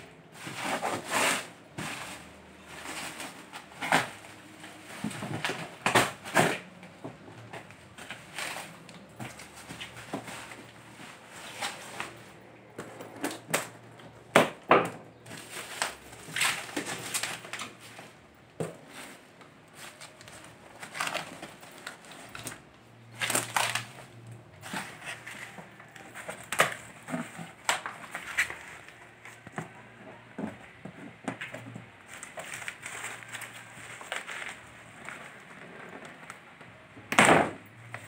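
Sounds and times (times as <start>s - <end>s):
bubble wrap and plastic crinkling: 0.0s - 37.0s.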